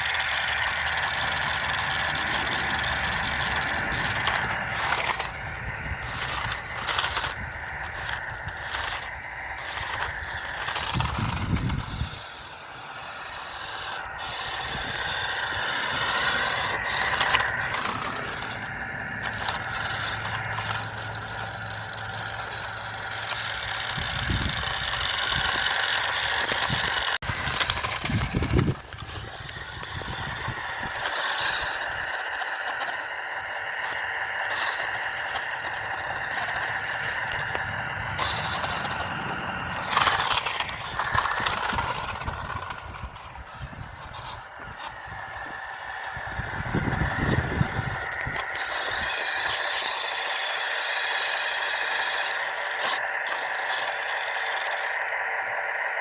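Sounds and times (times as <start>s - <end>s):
toy truck motor whine: 0.0s - 56.0s
wheels scraping and rattling: 0.0s - 56.0s.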